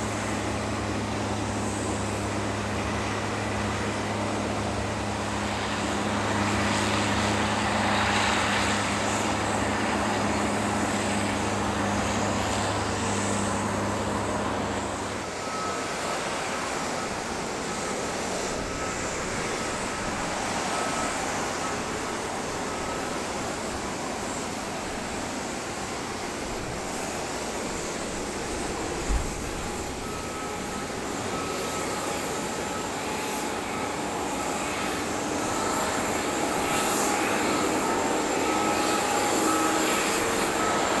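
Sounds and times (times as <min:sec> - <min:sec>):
faint high whine: 0:00.0 - 0:41.0
jet airliner rushing: 0:00.0 - 0:41.0.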